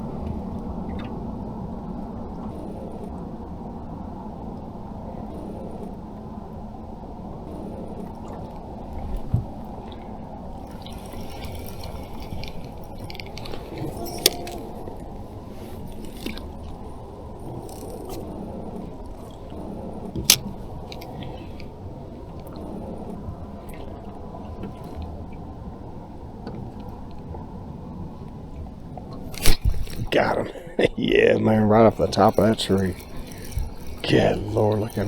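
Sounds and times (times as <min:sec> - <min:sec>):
water lapping against boat hull: 0:00.0 - 0:35.0.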